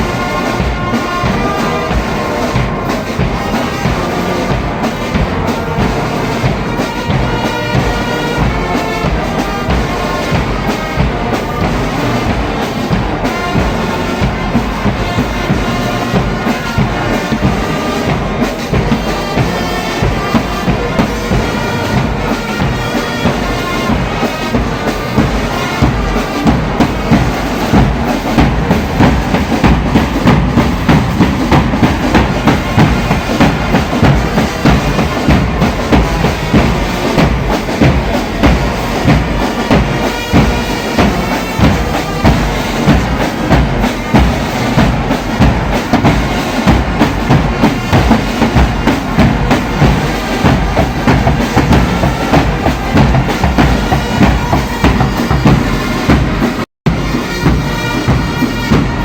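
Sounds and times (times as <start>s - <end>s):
bass drum beat: 0.0s - 59.0s
brass band playing: 0.0s - 59.0s.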